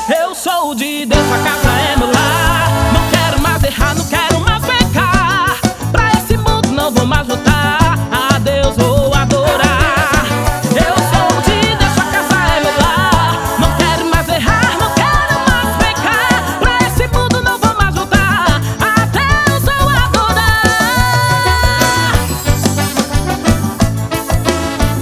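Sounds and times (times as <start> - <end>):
band playing gospel music: 0.0 - 25.0.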